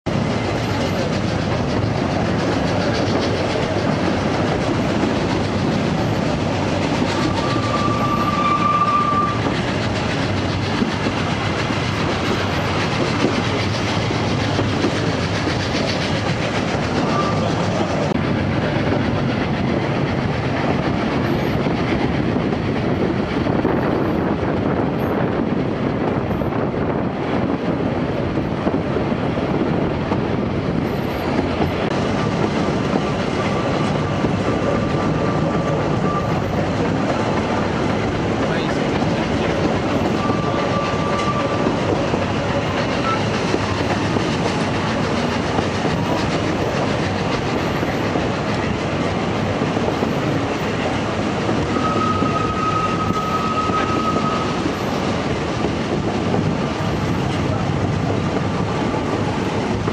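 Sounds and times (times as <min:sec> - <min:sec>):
train coaches running on rails: 0:00.0 - 0:59.9.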